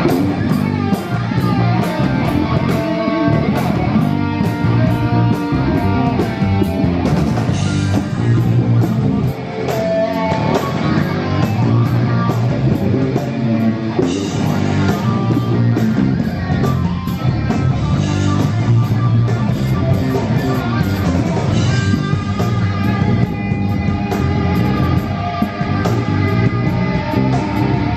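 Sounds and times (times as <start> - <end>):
bass guitar: 0.0 - 27.9
distorted electric guitar: 0.0 - 27.9
drum kit: 0.0 - 27.9.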